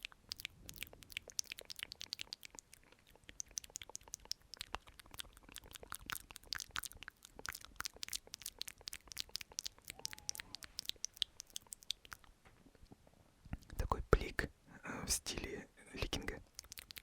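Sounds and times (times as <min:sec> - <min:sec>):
wet mouth clicks and smacks: 0:00.0 - 0:12.4, 0:13.5 - 0:14.0, 0:16.2 - 0:17.0.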